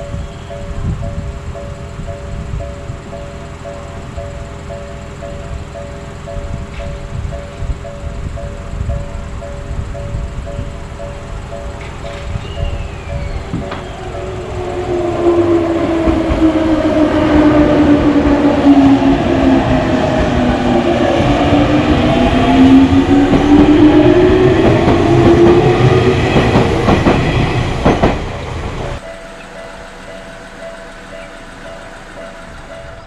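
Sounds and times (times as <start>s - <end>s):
train wheels clattering: 0.0s - 33.0s
train whine sliding in pitch: 0.0s - 33.0s.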